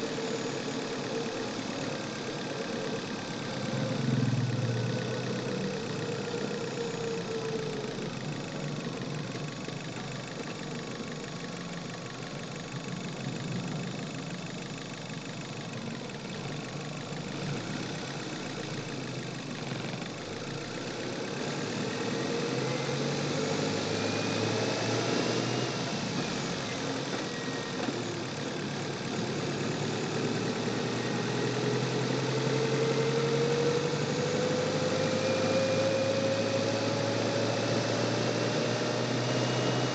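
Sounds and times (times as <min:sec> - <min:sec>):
car engine revving: 0:00.0 - 0:10.1, 0:17.2 - 0:39.9.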